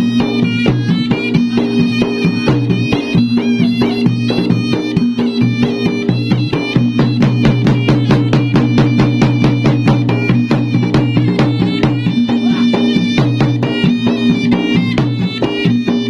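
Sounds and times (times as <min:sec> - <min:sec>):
drums beating fast rhythm: 0:00.0 - 0:16.0
reedy wind instrument melody: 0:00.0 - 0:16.0.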